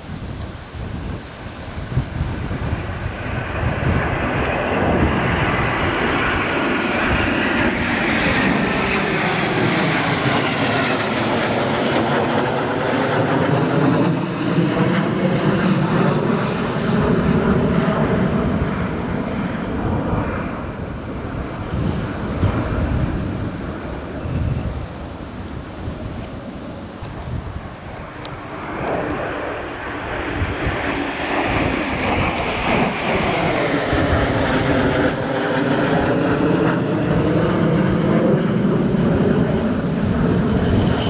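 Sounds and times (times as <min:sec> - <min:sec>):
aircraft flying overhead: 0:00.0 - 0:41.0.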